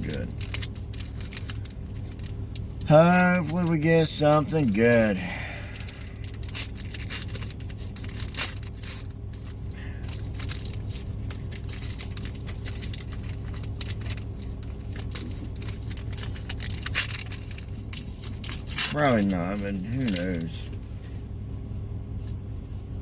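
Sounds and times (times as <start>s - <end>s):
foil wrapper crinkling: 0.0s - 21.1s
steady low hum: 0.0s - 23.0s.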